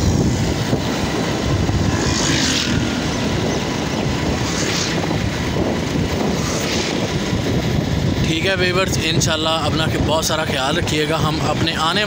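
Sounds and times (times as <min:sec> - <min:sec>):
vehicle road and engine noise: 0:00.0 - 0:12.0
wind rumble on microphone: 0:00.0 - 0:12.0.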